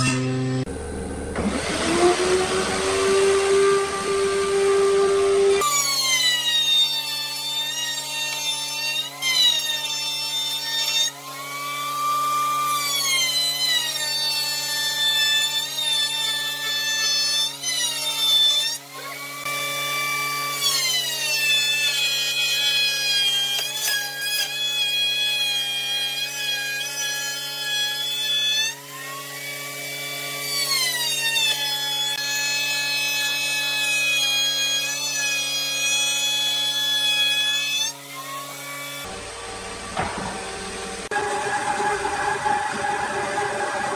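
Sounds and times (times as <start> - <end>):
wood router whining: 0.0 - 43.9.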